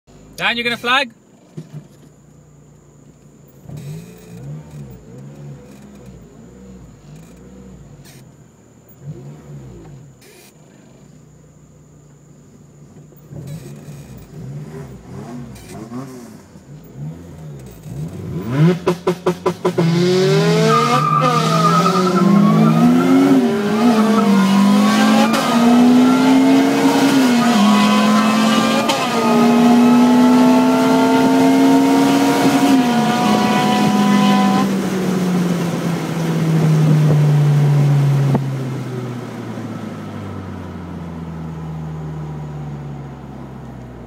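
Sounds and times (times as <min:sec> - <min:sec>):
car engine accelerating: 0:00.1 - 0:44.0.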